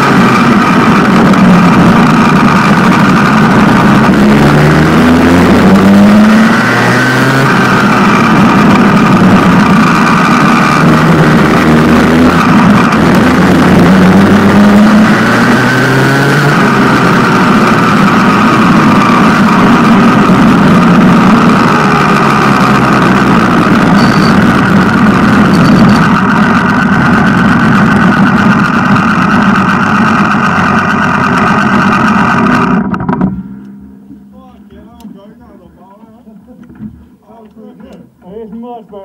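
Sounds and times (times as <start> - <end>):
go-kart engine running: 0.0 - 39.0.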